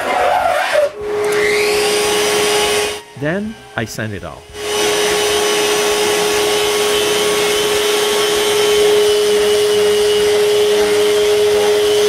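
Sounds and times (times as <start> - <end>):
electric sander on wood: 0.0 - 3.0, 4.5 - 12.0.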